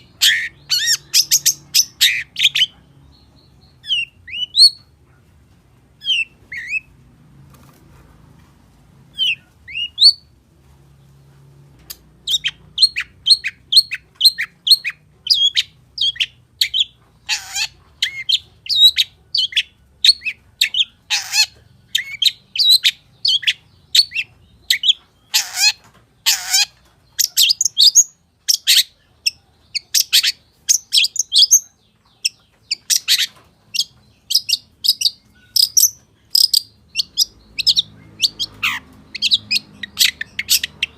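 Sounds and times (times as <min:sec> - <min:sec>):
bird singing: 0:00.0 - 0:04.9, 0:12.2 - 0:40.9.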